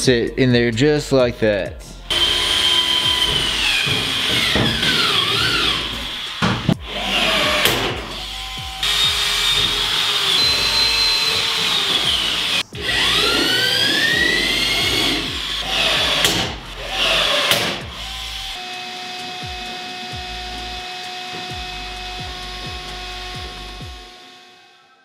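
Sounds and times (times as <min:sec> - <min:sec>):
electric drill boring into metal: 0:02.0 - 0:24.8.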